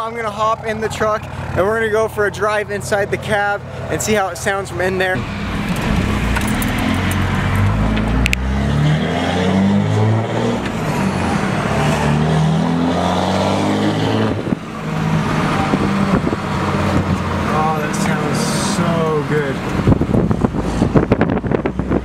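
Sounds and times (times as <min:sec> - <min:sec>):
diesel truck engine accelerating: 0:00.0 - 0:22.0.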